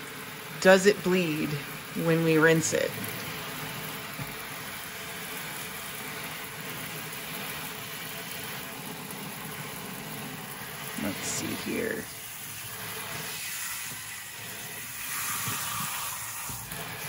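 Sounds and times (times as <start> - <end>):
tap water running: 0.0 - 17.0.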